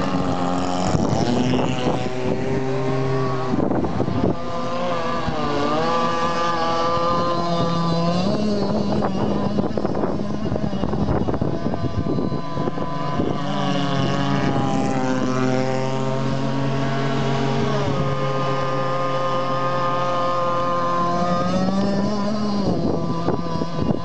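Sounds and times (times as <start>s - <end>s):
racing boat engine running hard: 0.0s - 24.0s.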